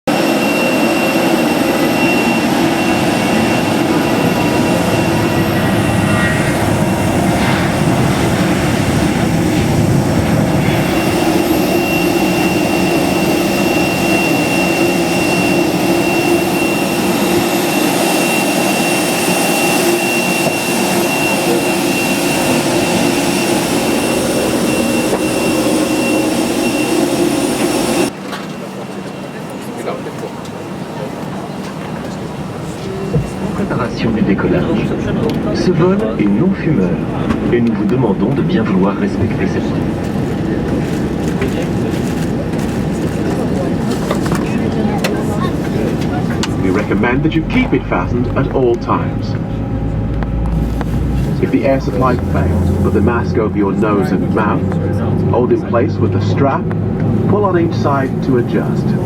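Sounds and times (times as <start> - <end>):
jet engine whine and rumble: 0.1 - 59.0.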